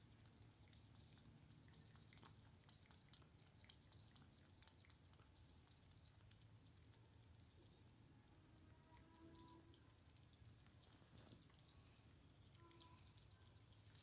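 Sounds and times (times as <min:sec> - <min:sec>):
kitten lapping and chewing: 0:00.0 - 0:14.0.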